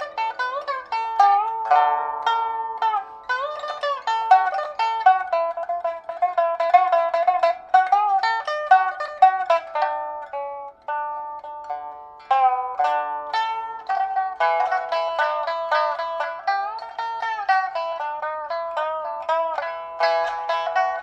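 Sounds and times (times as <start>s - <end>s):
pipa plucked notes: 0.0s - 21.0s.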